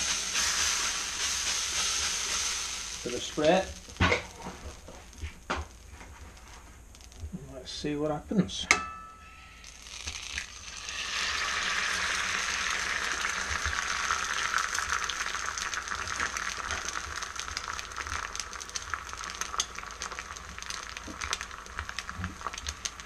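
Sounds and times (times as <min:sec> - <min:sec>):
egg sizzling in frying pan: 0:00.0 - 0:08.0, 0:09.3 - 0:23.0.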